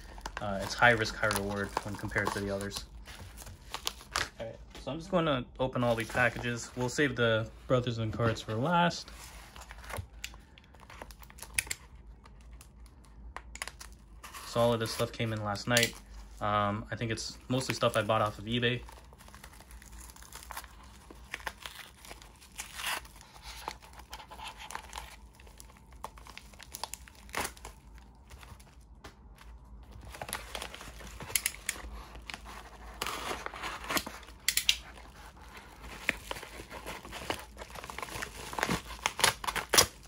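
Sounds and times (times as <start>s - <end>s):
packaging tearing and crinkling: 0.0s - 4.4s, 8.4s - 16.4s, 17.5s - 40.0s.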